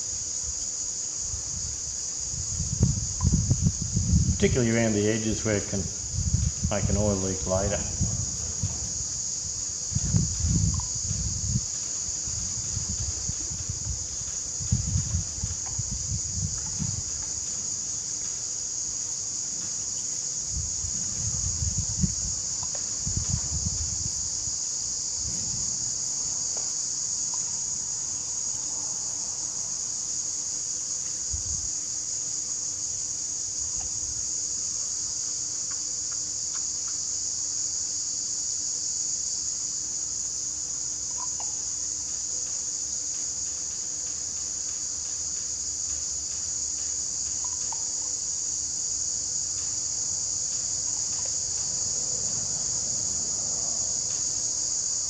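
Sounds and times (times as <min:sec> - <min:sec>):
shrill insect chorus: 0:00.0 - 0:55.0.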